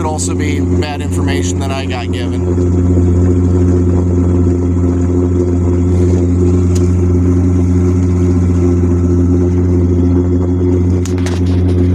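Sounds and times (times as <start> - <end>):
boat engine running: 0.0 - 11.9.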